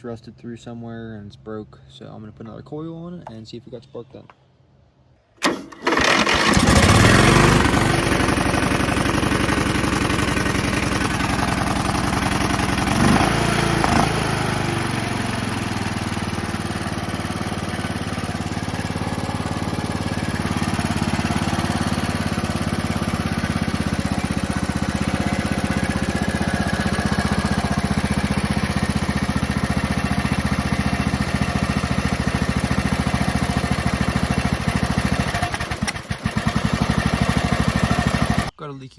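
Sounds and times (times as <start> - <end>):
tractor engine starting and revving: 5.4 - 38.5.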